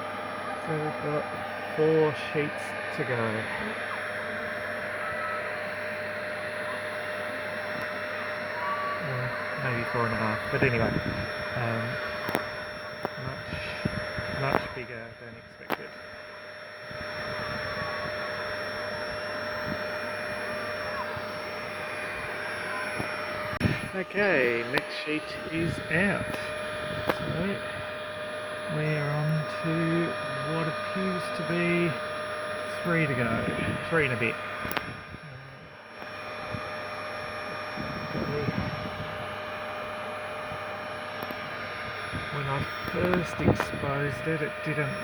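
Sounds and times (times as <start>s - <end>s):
vacuum motor whirring: 0.0s - 45.0s.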